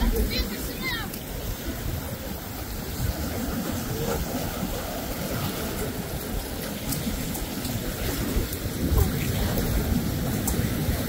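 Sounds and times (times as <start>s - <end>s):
ocean surf washing in: 0.0s - 11.0s.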